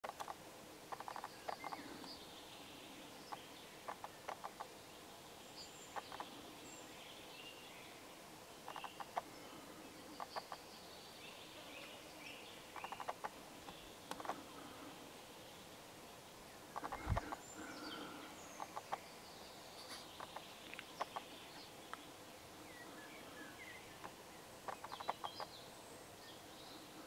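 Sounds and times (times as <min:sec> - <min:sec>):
faint birdsong: 0:00.0 - 0:27.0.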